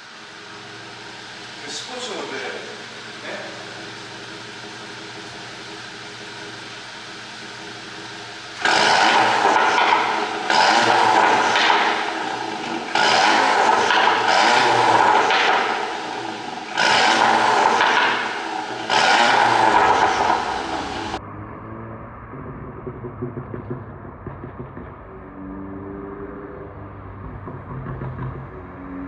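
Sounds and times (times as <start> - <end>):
car engine revving: 0.0 - 29.0
exhaust crackle: 0.0 - 29.0.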